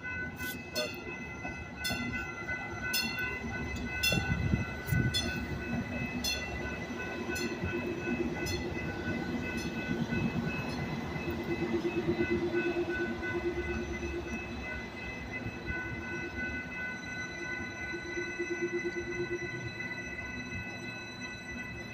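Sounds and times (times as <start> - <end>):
bell ringing: 0.0 - 21.9
train engines rumbling: 0.0 - 21.9
train hum: 0.0 - 21.9.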